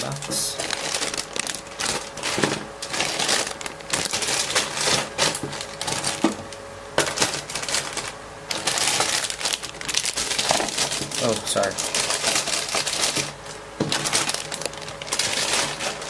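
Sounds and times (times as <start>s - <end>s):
plastic bags rustling and crinkling: 0.0s - 16.0s.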